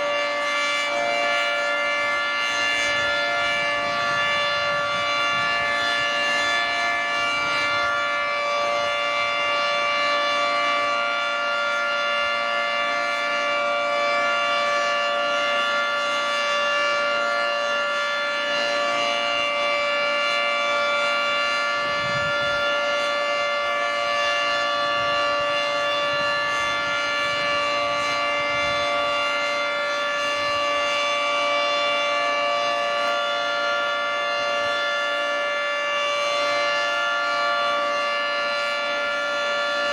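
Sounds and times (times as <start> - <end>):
outdoor warning siren chord: 0.0 - 39.9.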